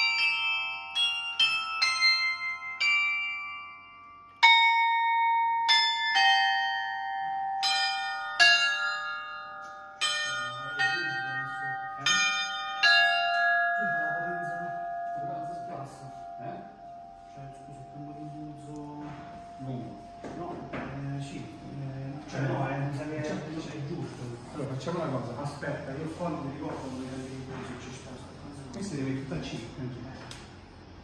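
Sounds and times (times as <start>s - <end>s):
church bells clanging: 0.0s - 26.5s.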